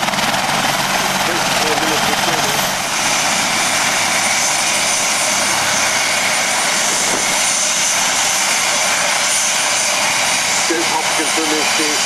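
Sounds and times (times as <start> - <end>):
helicopter turbine and rotor noise: 0.0 - 12.0.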